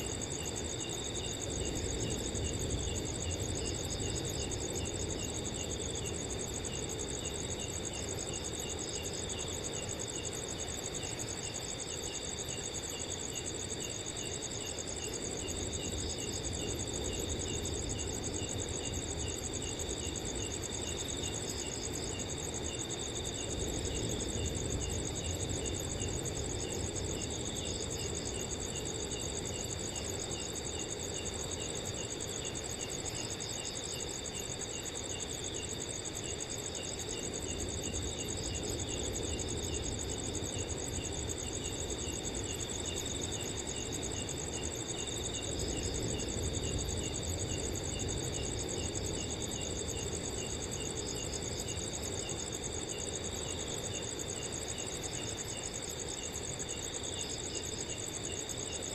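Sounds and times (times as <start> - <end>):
crickets chirping: 0.0 - 58.9.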